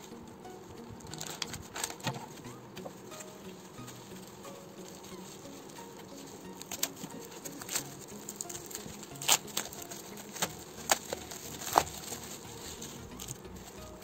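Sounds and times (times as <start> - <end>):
bubble wrap crinkling and crackling: 0.0 - 14.0.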